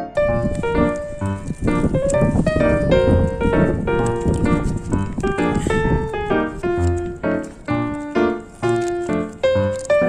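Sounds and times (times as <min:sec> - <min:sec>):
piano melody with steady beat: 0:00.0 - 0:10.0.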